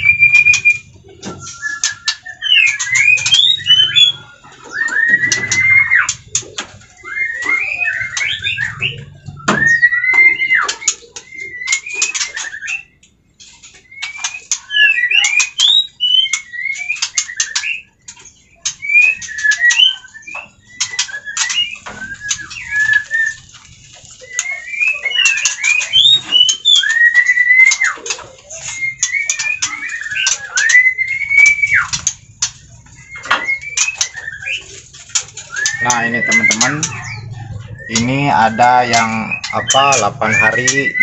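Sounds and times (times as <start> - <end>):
bird singing whistles and clicks: 0.0 - 41.0.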